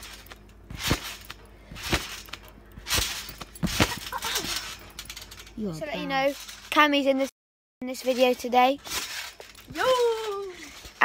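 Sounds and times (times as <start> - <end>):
trampoline mat thudding: 0.0 - 7.0, 8.0 - 11.0.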